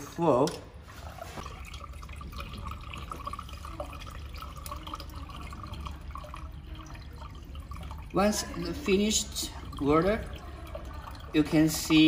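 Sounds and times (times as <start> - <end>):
water pouring into tank: 0.4 - 12.0.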